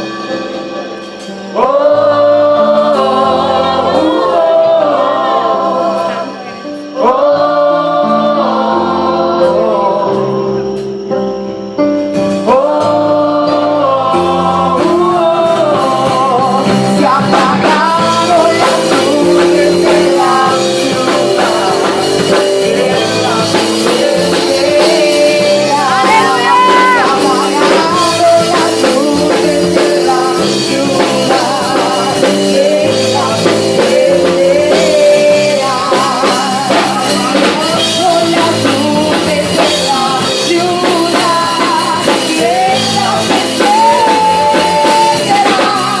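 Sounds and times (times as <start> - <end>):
drums: 0.0 - 11.1, 11.8 - 46.0
worship song over full band: 0.0 - 46.0.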